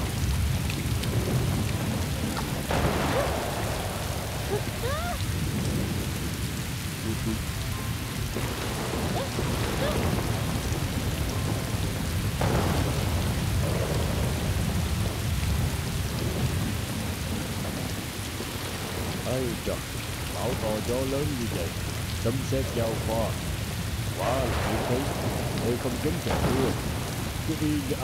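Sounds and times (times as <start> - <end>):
deep thunder: 0.0 - 28.0
heavy rain pouring: 0.0 - 28.0.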